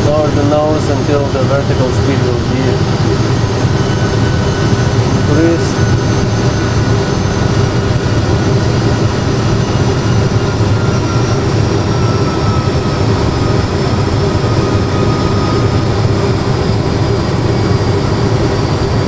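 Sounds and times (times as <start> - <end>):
faint high whine: 0.0 - 16.9
jet engine and airflow rumble: 0.0 - 19.0.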